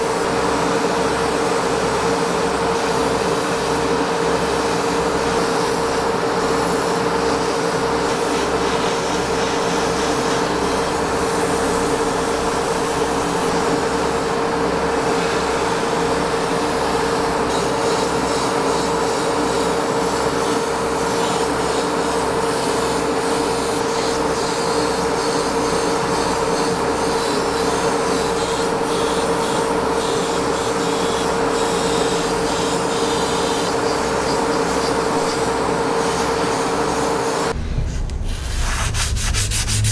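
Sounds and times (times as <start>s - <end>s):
motor hum with pulsing throb: 0.0s - 39.9s
airbrush spraying hiss: 0.3s - 16.9s, 23.3s - 39.9s.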